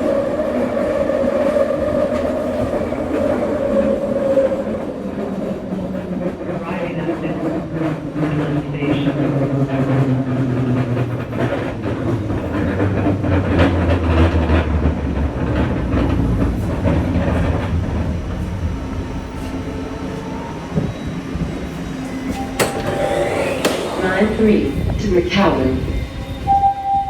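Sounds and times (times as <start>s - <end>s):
train car rumbling on track: 0.0s - 27.0s.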